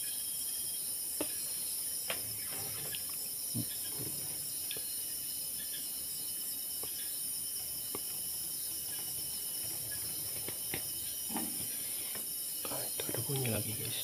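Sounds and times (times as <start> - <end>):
crickets and insects trilling: 0.0 - 14.0.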